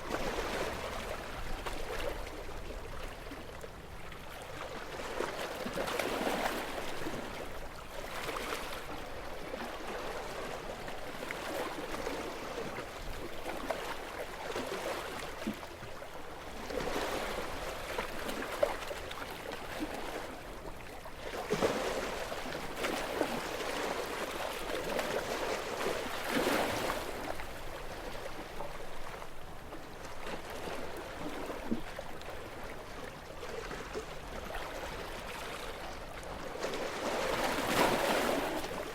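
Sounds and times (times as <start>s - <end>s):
sea waves lapping on shore: 0.0s - 38.9s.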